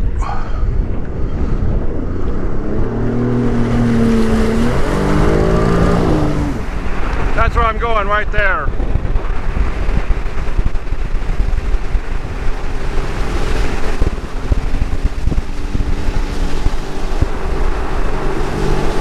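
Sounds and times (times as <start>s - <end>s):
watercraft engine hum: 0.0s - 19.0s
wind buffeting microphone: 0.0s - 19.0s.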